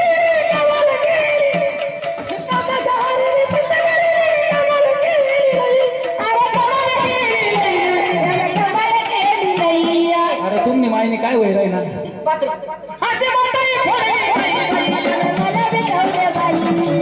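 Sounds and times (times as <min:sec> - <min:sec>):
steady drum beat: 0:00.0 - 0:17.0.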